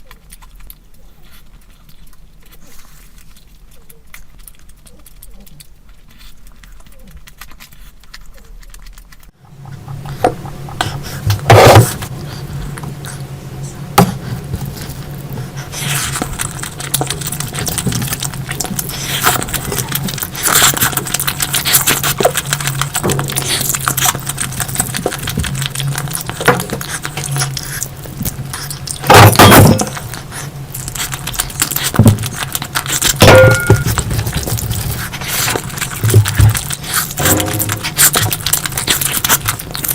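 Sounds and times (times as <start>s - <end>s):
food handling scrapes and clicks: 0.0s - 13.4s, 14.0s - 39.9s
chewing and crunching: 0.0s - 39.9s
steady low hum: 0.0s - 39.9s.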